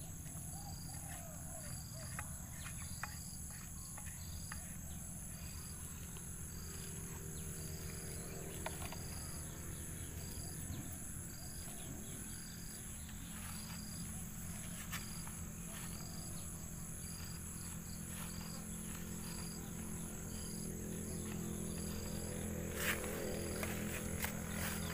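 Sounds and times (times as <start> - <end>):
insects chirping: 0.0 - 24.9
steady low hum: 0.0 - 24.9.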